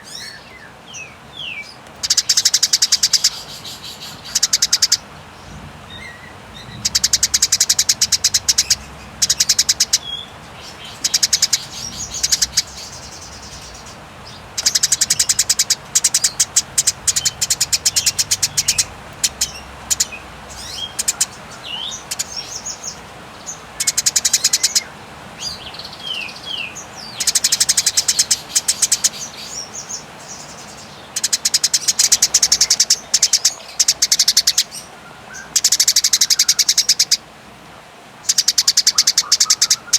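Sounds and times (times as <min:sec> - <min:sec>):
sparrow rattling trills: 0:02.0 - 0:37.2, 0:38.2 - 0:39.9.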